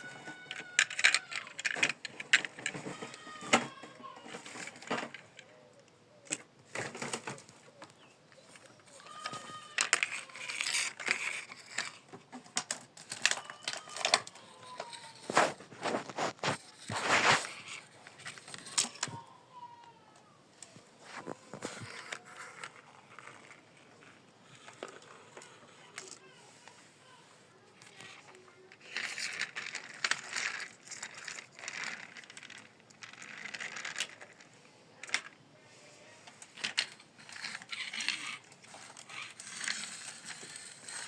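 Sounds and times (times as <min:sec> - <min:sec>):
plastic toys clicking and clattering: 0:00.0 - 0:41.0.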